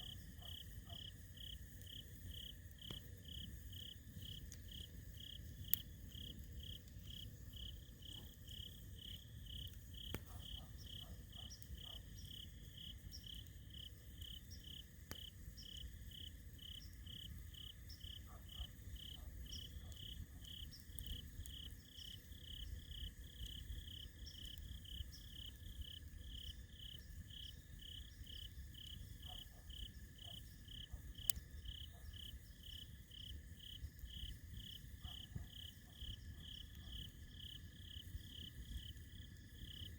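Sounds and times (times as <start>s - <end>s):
campfire popping: 0.0s - 39.9s
cricket chirping: 0.0s - 39.9s.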